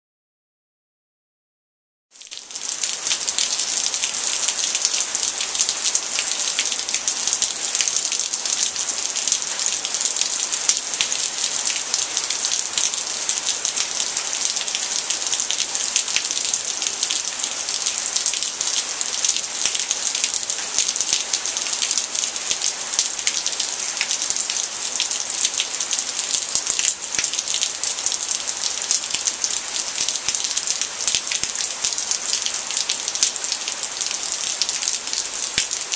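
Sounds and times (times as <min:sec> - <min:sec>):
heavy rain pouring: 0:02.2 - 0:35.9.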